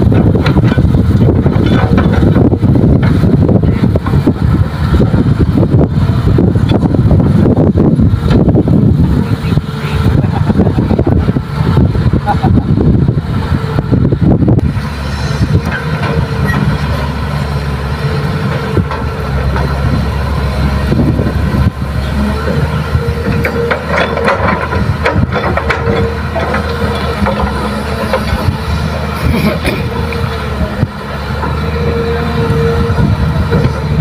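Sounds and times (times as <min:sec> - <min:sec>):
diesel engines running: 0:00.0 - 0:34.0.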